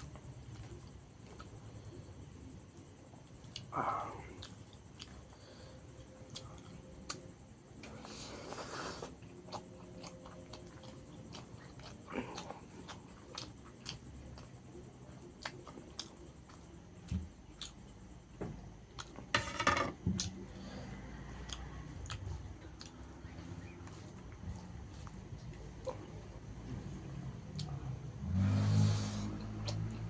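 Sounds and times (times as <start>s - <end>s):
person chewing food: 0.0s - 19.3s, 20.2s - 30.0s.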